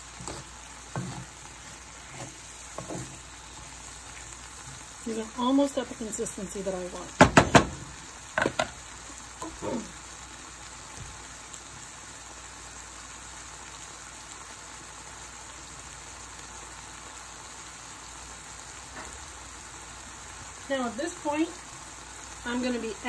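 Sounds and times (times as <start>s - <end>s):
vegetables sizzling in a skillet: 0.0s - 23.0s.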